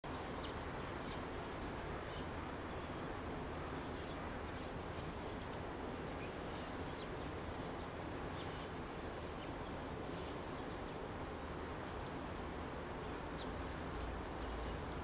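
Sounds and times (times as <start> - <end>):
faint bird chirps: 0.1 - 11.1, 13.0 - 15.0.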